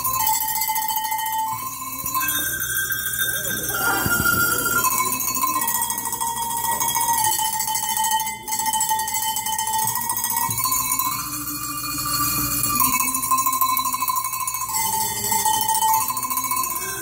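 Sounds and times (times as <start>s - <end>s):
tuned cowbells ringing melody: 0.0s - 17.0s.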